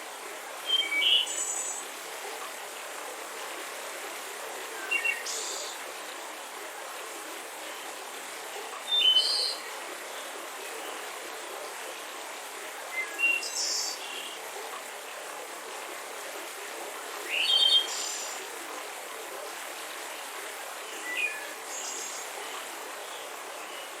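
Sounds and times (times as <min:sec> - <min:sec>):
river running: 0:00.0 - 0:24.0.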